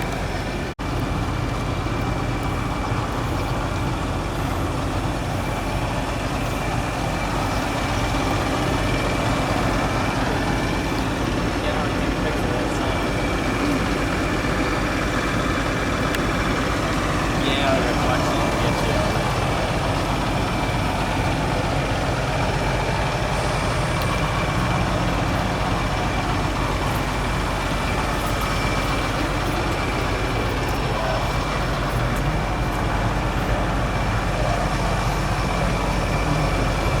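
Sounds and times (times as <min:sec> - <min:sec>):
truck engine rumbling with whine: 0:00.0 - 0:37.0.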